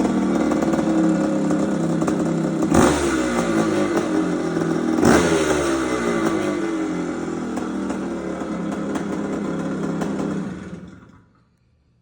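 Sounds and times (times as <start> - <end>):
two-stroke engine idling: 0.0 - 11.4.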